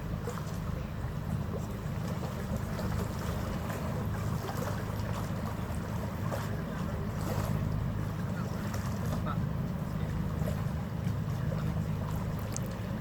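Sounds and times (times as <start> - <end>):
ferry engine rumble: 0.0 - 13.0
water noise: 0.0 - 13.0
wind: 0.0 - 13.0.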